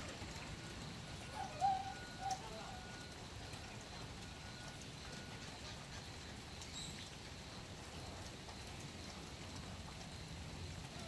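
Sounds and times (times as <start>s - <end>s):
drips ticking: 0.0s - 11.0s
light rain falling: 0.0s - 11.0s.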